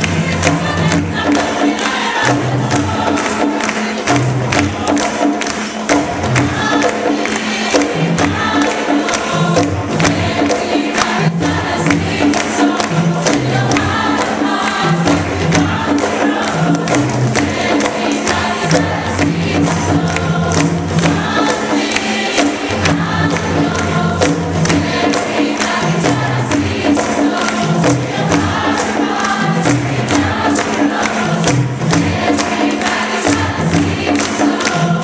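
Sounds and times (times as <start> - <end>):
choir singing: 0.0 - 35.0
fast steady beat: 0.0 - 35.0.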